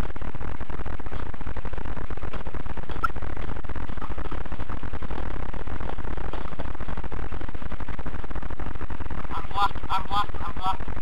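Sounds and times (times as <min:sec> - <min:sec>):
crackling electrical buzz: 0:00.0 - 0:11.0.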